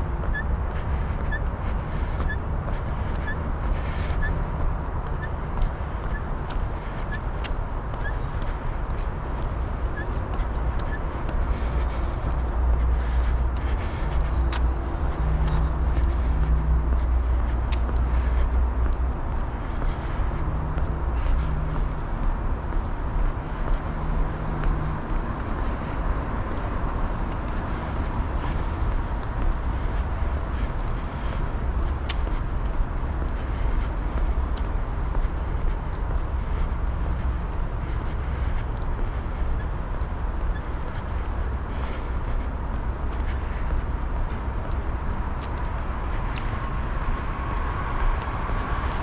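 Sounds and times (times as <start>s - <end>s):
footsteps on a trail: 0.0s - 49.0s
road traffic rumble: 0.0s - 49.0s.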